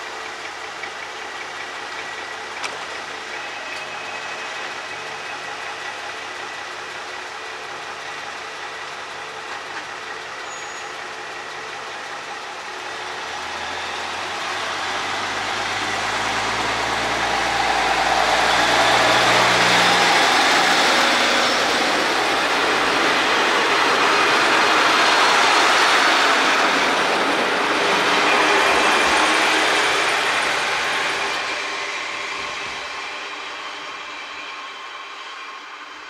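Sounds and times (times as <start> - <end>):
diesel railcar engine: 0.0 - 36.0
wheel-on-rail noise: 0.0 - 36.0.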